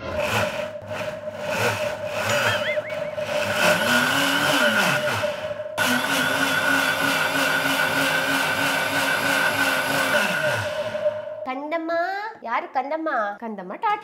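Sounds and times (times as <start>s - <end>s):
mixer grinder motor whine: 0.0s - 11.5s.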